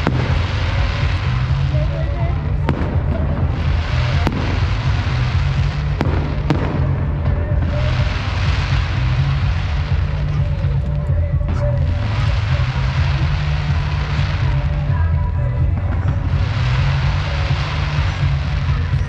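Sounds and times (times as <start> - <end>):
fireworks bangs: 0.0 - 19.0
music playing: 0.0 - 19.0
noisy rumble: 0.0 - 19.0.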